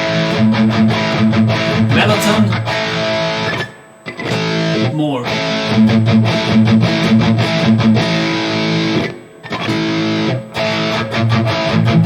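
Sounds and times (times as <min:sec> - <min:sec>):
distorted electric guitar riff: 0:00.0 - 0:12.0.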